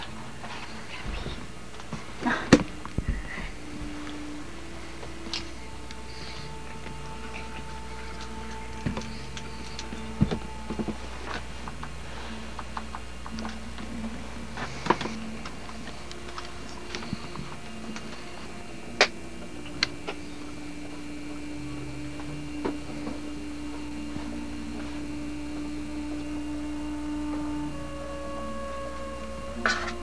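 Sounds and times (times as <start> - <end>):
low hum: 0.0 - 30.0
steady tone: 0.0 - 30.0.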